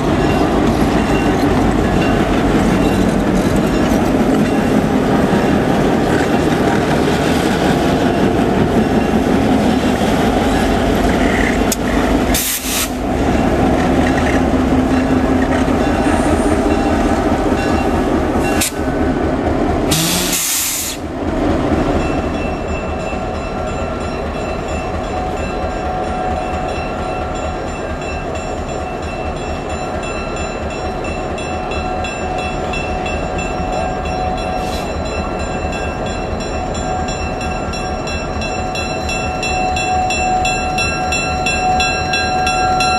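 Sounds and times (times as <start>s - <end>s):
diesel locomotive engine running: 0.0s - 42.9s.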